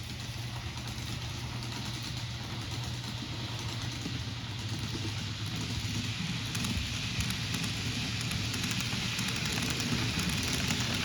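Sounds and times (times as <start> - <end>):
model train motor hum: 0.0 - 11.0
wheels rattling on rails: 0.0 - 11.0.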